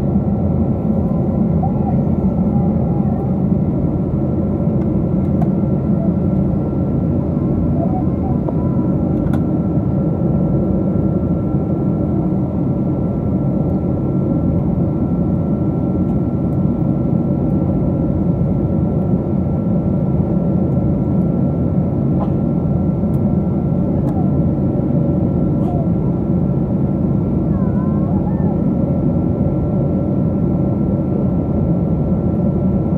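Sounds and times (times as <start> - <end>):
airliner cabin roar: 0.0 - 32.9.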